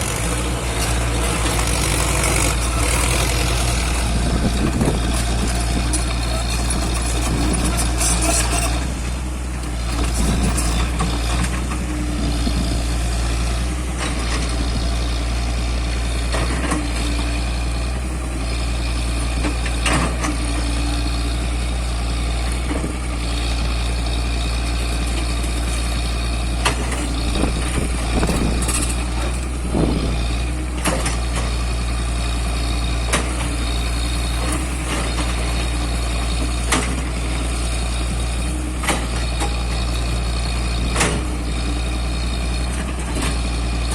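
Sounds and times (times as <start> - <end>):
diesel machinery droning: 0.0 - 43.9.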